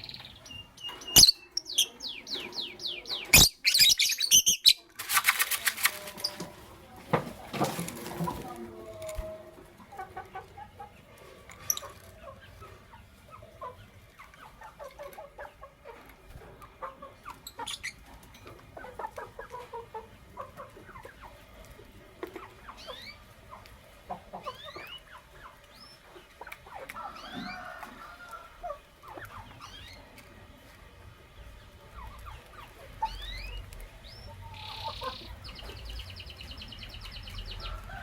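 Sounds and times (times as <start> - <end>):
lovebirds chattering: 0.0 - 6.8, 7.5 - 38.0.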